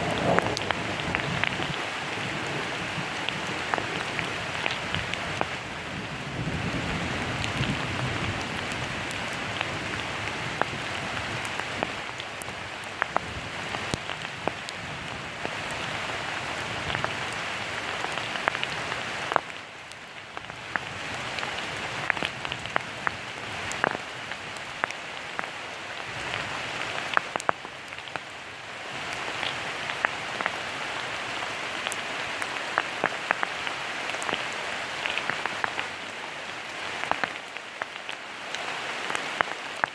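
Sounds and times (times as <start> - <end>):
rain hiss: 0.0 - 39.9
raindrops ticking close by: 0.0 - 39.9.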